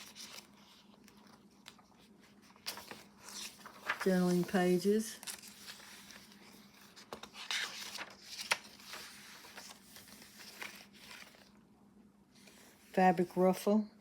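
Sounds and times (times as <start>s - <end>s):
pages rustling: 0.0s - 11.6s
faint steady hum: 0.0s - 14.0s.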